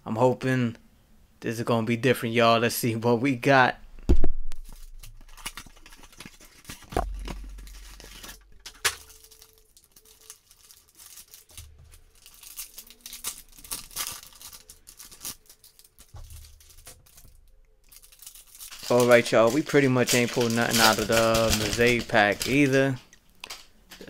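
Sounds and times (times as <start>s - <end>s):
foil packs crinkling: 4.6s - 24.0s.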